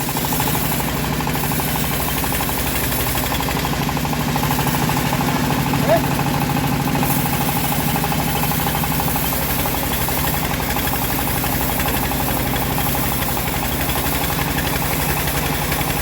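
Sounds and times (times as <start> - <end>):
bandsaw mill engine running: 0.0 - 16.0.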